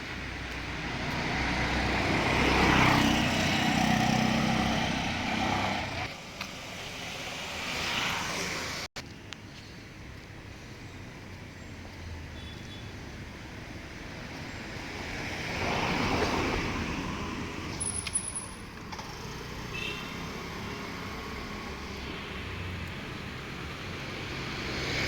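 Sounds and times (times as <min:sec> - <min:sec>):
traffic noise: 0:00.0 - 0:25.0.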